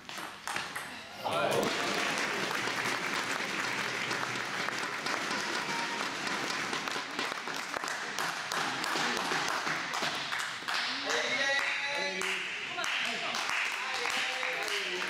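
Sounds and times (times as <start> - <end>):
spectators applauding: 1.6 - 15.0.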